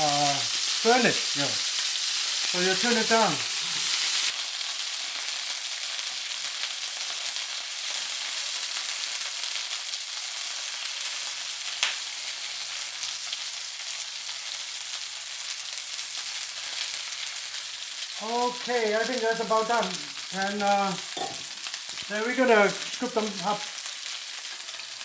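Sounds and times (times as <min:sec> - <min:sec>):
chicken frying in oil: 0:00.0 - 0:25.0.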